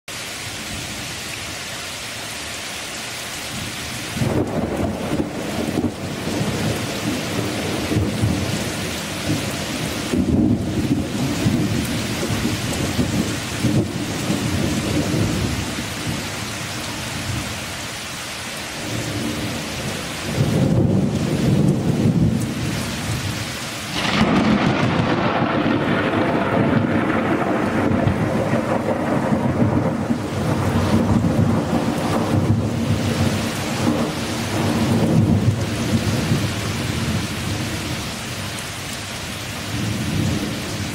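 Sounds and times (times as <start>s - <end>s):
heavy rain pouring: 0.1s - 40.9s
deep thunder rumbles: 4.2s - 17.5s, 18.8s - 38.2s, 39.6s - 40.9s.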